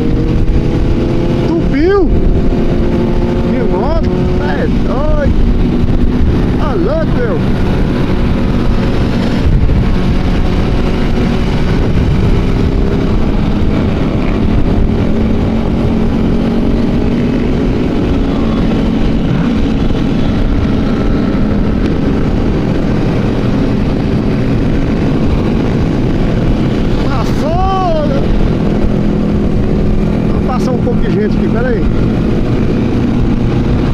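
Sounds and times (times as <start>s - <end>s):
motorcycle engines droning: 0.0s - 33.9s.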